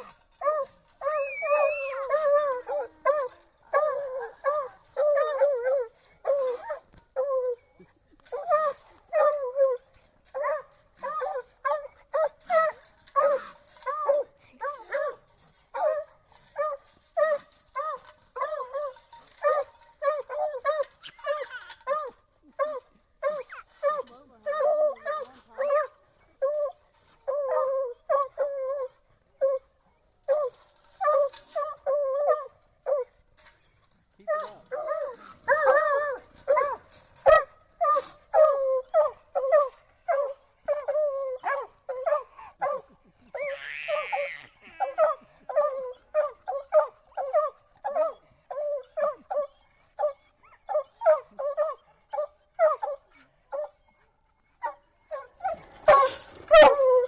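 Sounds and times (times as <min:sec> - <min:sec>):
dogs barking and yipping: 0:00.0 - 0:57.0.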